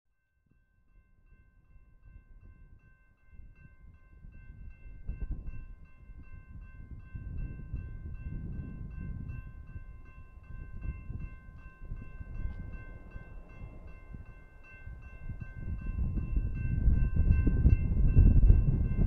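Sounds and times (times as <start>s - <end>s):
railroad crossing bell ringing: 0.2s - 19.0s
freight train rumble: 1.9s - 19.0s.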